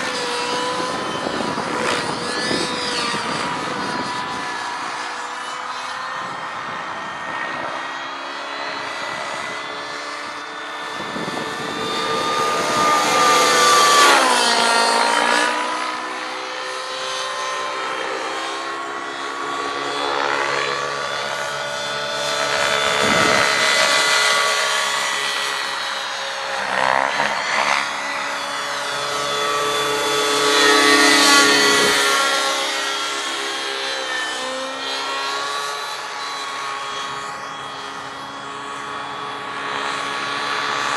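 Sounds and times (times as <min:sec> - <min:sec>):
model helicopter engine and rotor whine: 0:00.0 - 0:40.9.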